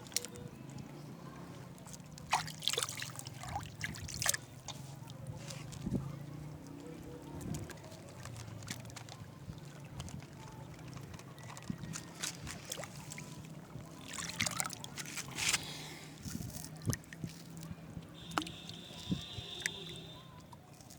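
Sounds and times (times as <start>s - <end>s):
water lapping and splashing: 0.0s - 20.9s.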